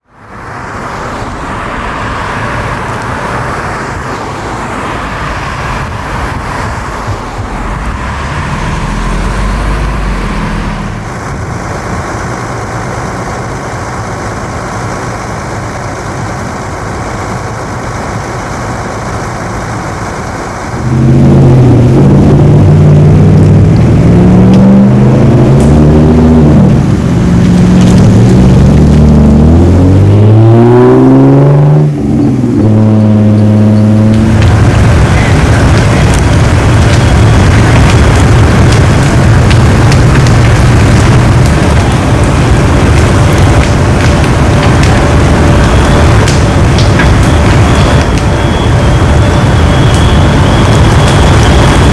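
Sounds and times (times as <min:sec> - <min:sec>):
heavy engine droning: 0:00.0 - 0:51.9
road traffic: 0:00.0 - 0:51.9.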